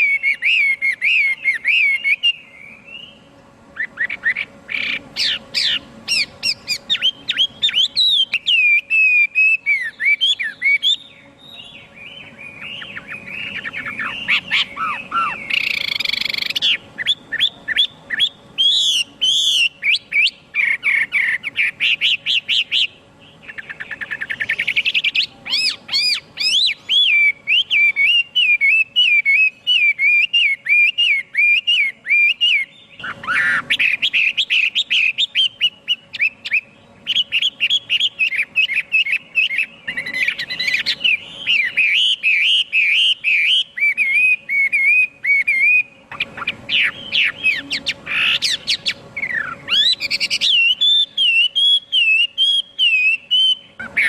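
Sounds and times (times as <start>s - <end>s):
bird singing whistled notes and trills: 0.0s - 54.0s.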